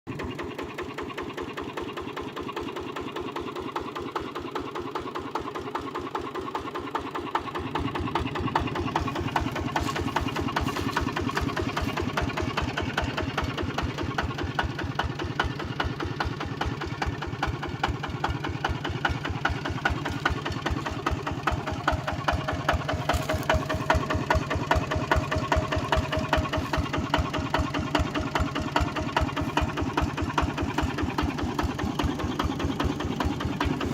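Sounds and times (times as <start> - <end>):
diesel engine knocking: 0.1 - 33.9.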